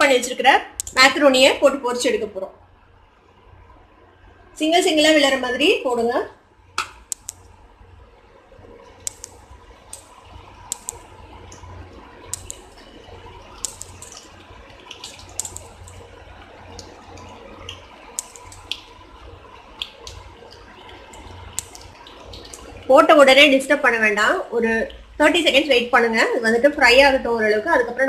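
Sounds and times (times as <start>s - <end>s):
pasta deep-frying in oil: 0.0s - 28.0s.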